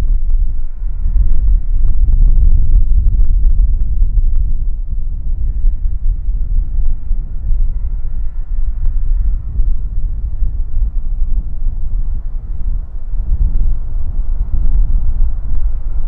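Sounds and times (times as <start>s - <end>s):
faint engine whine: 0.0s - 16.0s.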